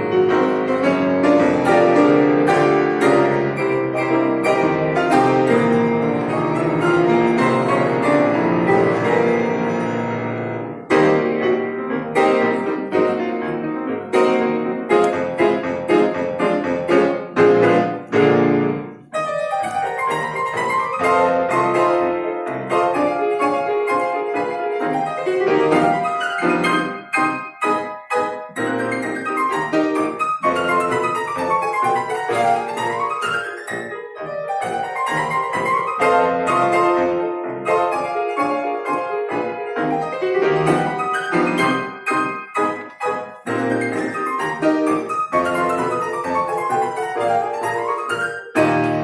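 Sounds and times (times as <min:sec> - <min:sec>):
piano duet: 0:00.0 - 0:49.0.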